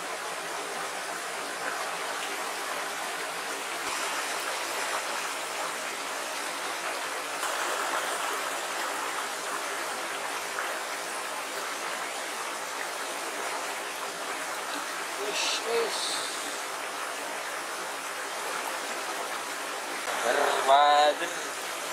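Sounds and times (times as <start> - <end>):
stream running over stones: 0.0 - 21.9.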